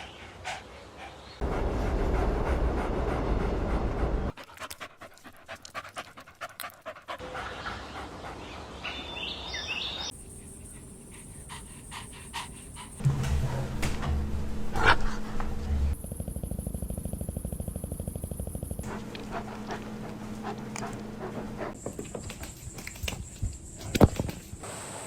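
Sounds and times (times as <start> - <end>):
puppies panting: 0.0 - 13.0, 14.8 - 24.6.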